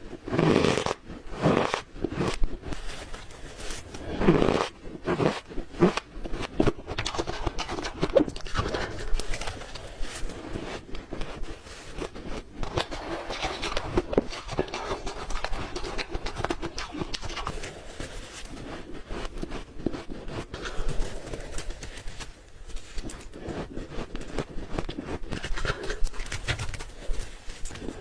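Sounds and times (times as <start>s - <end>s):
person chewing ice crunching: 0.0s - 22.2s, 22.8s - 26.6s.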